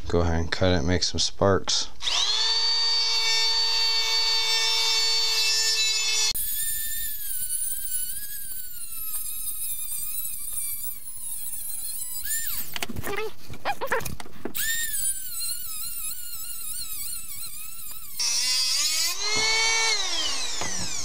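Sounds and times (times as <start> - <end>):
cut-off wheel cutting metal pipe: 2.0 - 12.7, 14.6 - 21.0.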